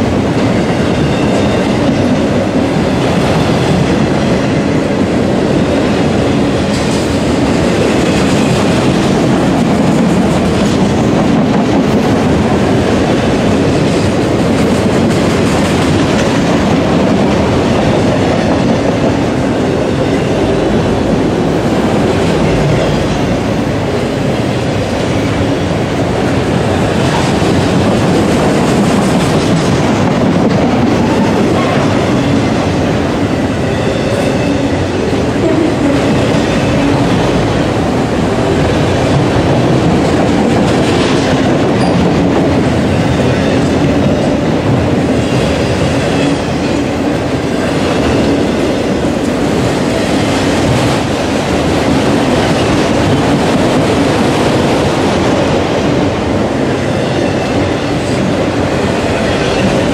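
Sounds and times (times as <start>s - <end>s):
steel wheels on rails: 0.0s - 59.9s.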